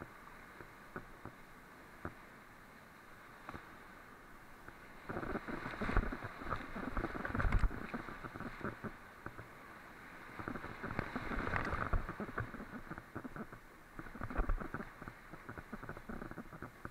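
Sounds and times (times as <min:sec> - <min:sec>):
muffled whitewater rapids: 0:00.0 - 0:16.9.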